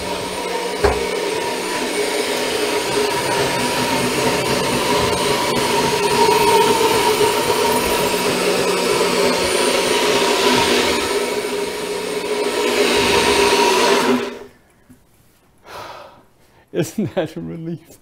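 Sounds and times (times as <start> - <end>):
blender motor whirring: 0.0 - 14.5.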